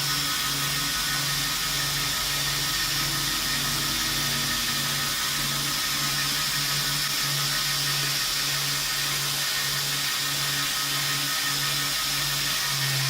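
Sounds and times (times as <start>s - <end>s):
belt grinder running: 0.0s - 13.0s.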